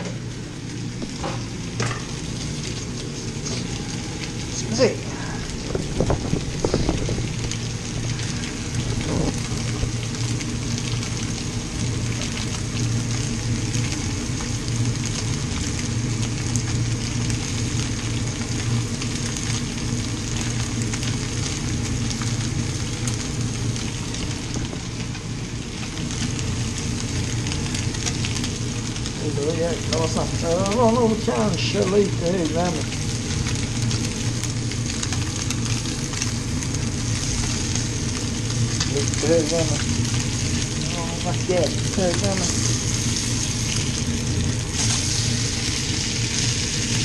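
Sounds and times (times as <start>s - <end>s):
fish frying with crackling sizzle: 0.0s - 47.0s.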